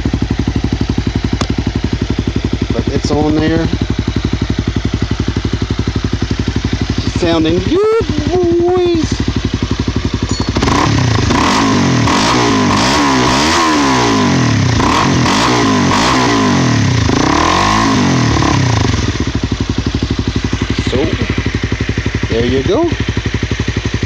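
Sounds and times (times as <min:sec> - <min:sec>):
motorcycle engine idling: 0:00.0 - 0:24.0
motorcycle engine revving: 0:00.0 - 0:24.0.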